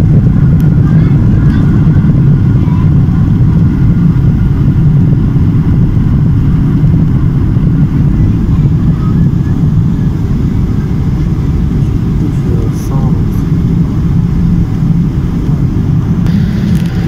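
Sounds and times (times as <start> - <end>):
jet engine low rumble: 0.0 - 17.0.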